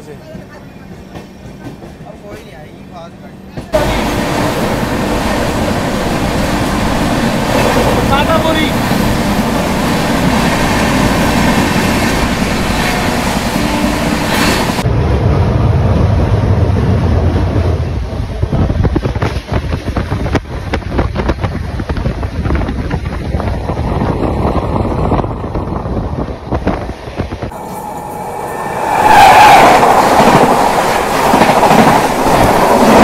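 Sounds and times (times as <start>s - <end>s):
train rumble with wheel clicks: 0.0s - 33.0s
train rushing noise: 0.0s - 33.0s.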